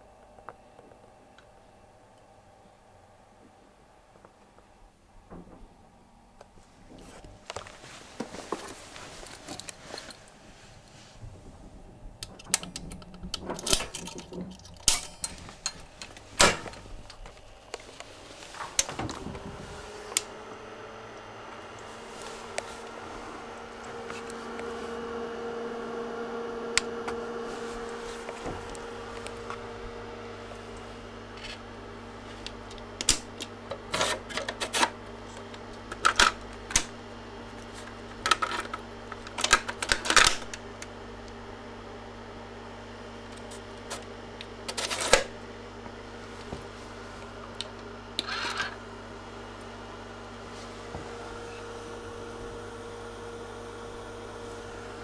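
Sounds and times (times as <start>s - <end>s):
steady hum: 0.0s - 55.0s.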